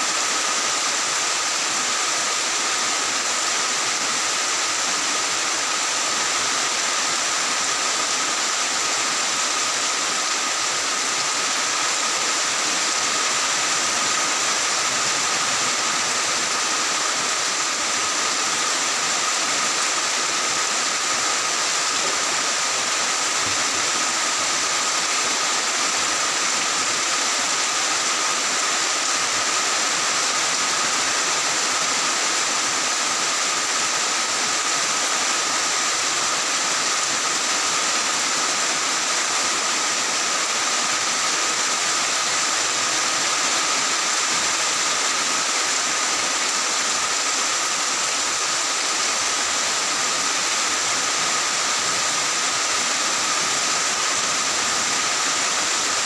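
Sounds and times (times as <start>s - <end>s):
heavy rain on tiled roofs: 0.0s - 56.0s.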